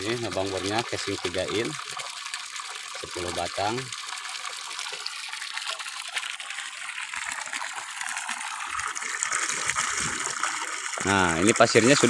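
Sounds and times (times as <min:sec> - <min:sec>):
water gushing into puddle: 0:00.0 - 0:12.0.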